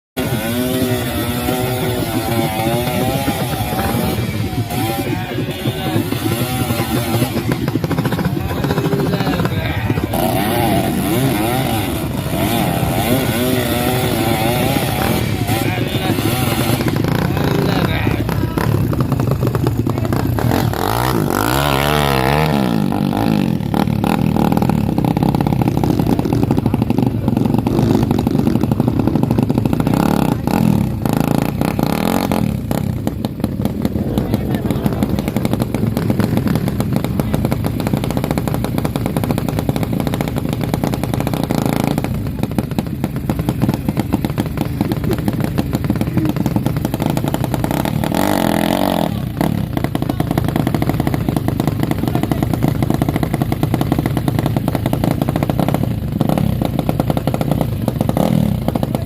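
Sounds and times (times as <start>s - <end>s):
dirt bike engine revving: 0.2s - 59.0s.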